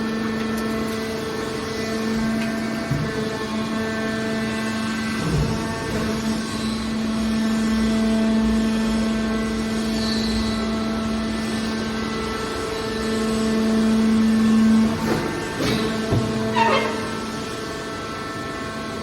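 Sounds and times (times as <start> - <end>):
hydraulic pump whining hum: 0.0 - 19.0.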